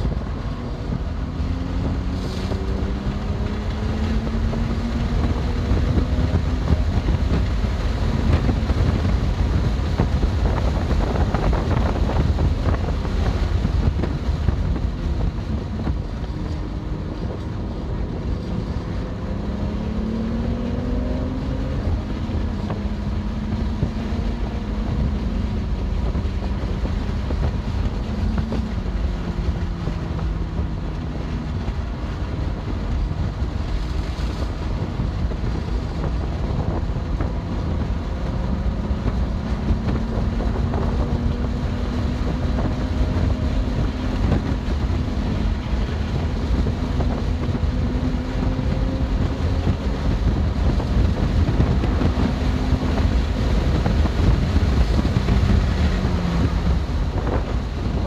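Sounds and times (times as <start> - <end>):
car engine revving at speed: 0.0 - 58.0
heavy wind: 0.0 - 58.0
road rumble: 0.0 - 58.0.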